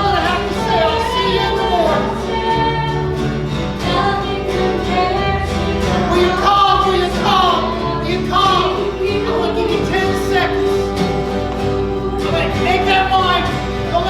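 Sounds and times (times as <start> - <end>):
voices singing gospel song: 0.0 - 14.0.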